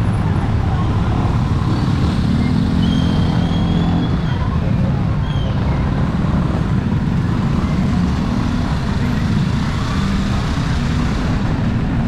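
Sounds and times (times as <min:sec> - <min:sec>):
traffic on a wet street: 0:00.0 - 0:12.0.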